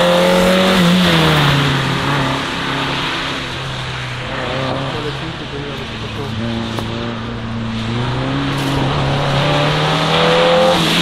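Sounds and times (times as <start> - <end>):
car engine pulling hard: 0.0 - 11.0.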